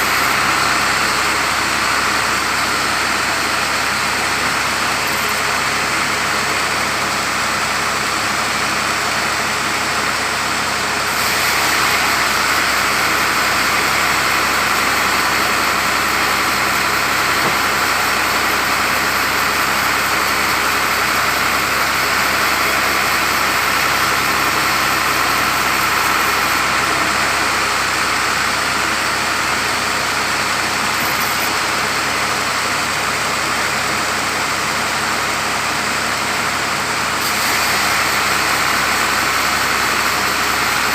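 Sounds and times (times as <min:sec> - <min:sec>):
engine-like hum: 0:00.0 - 0:40.9
sawmill saw cutting wood: 0:00.0 - 0:40.9.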